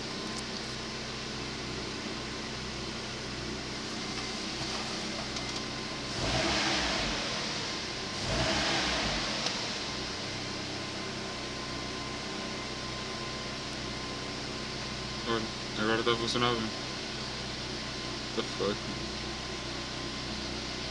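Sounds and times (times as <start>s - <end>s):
car engine idling and revving: 0.0s - 20.9s.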